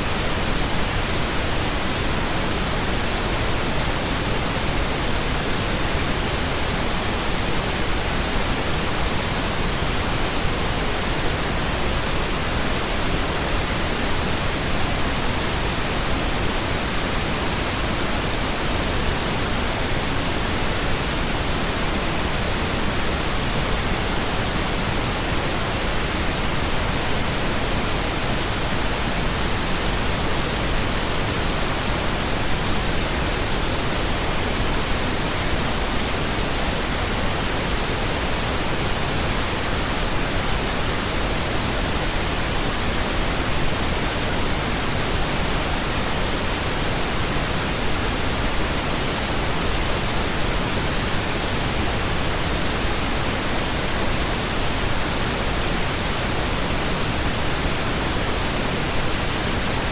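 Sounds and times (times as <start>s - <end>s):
steady pink noise: 0.0s - 59.9s.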